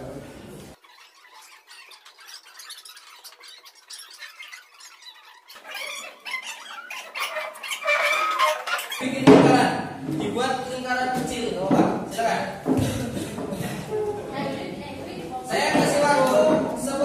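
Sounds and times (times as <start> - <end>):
pupils chattering: 0.7 - 17.0.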